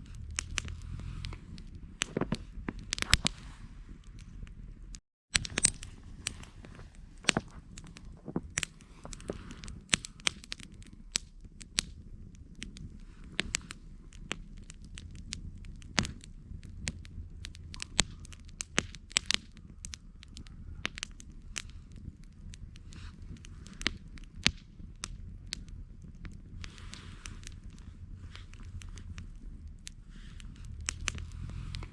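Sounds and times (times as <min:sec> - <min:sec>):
campfire crackling: 0:00.0 - 0:31.9
low rumble: 0:00.0 - 0:31.9.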